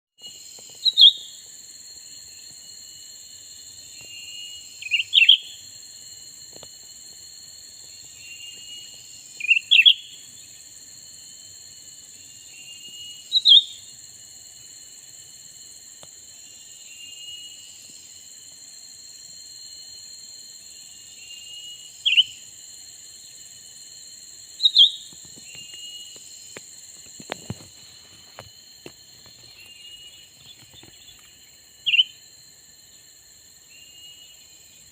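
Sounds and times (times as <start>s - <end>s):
insect buzzing: 0.2s - 34.9s.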